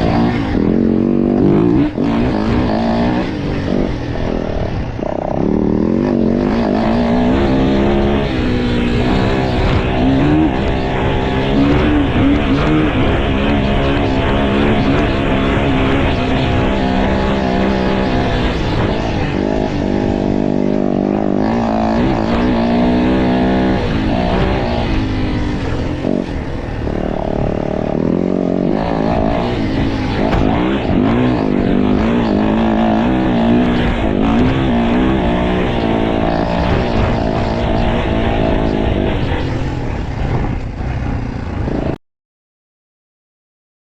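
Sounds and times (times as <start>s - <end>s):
motocross bike engine revving: 0.0s - 42.0s
rough wind and track noise: 0.0s - 42.0s.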